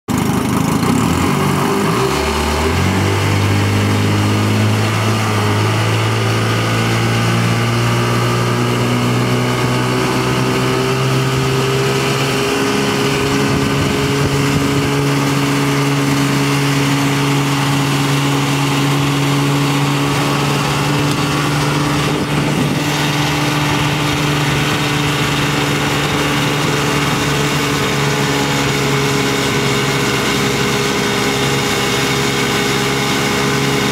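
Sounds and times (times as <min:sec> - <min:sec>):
outboard motor revving: 0:00.1 - 0:33.9.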